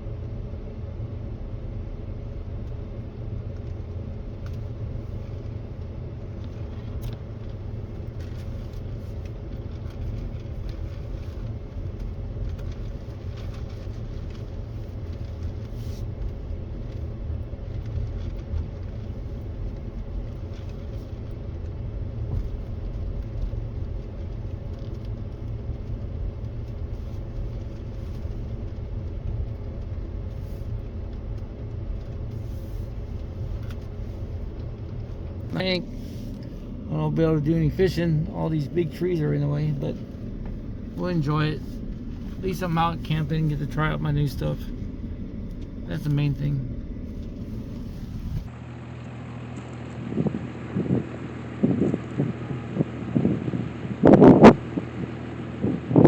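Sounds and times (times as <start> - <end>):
tyres rumbling on dirt road: 0.0 - 48.6
truck engine: 0.0 - 55.8.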